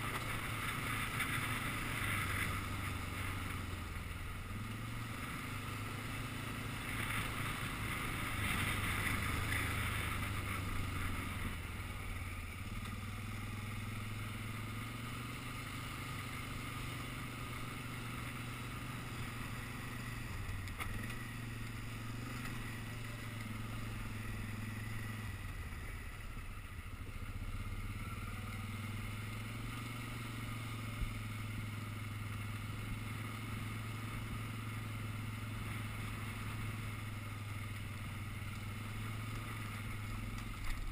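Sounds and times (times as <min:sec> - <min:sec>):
quad engine running: 0:00.0 - 0:40.9.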